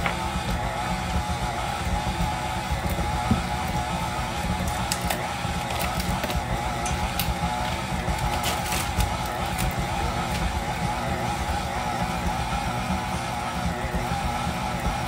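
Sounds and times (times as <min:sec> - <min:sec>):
stand mixer running: 0:00.0 - 0:15.0.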